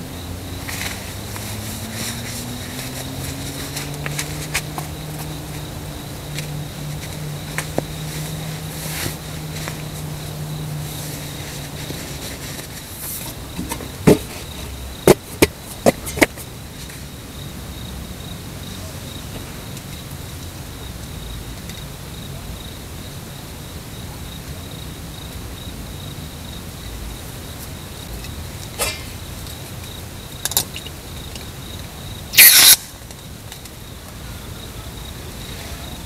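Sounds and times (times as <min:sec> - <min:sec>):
insects chirring: 0:00.0 - 0:36.0.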